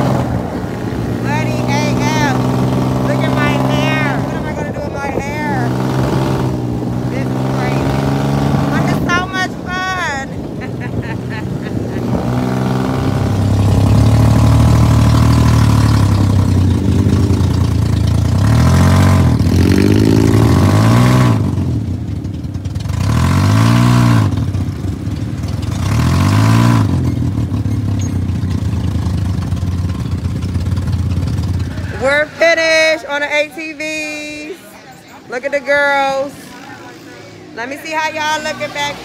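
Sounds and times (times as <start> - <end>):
dune buggy engine revving: 0.0 - 39.0.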